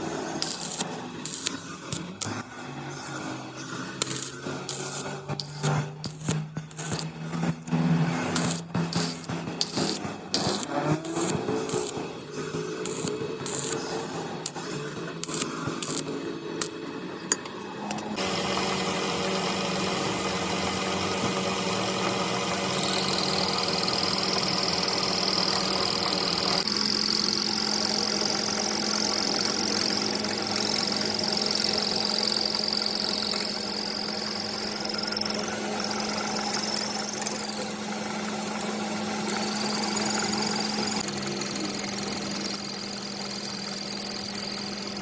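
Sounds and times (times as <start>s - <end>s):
lathe running with steady hum: 0.0s - 45.0s.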